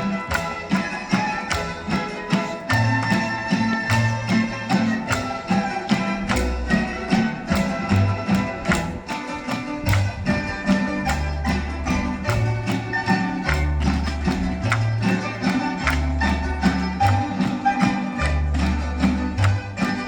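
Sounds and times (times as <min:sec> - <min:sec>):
music with percussive beat: 0:00.0 - 0:20.0.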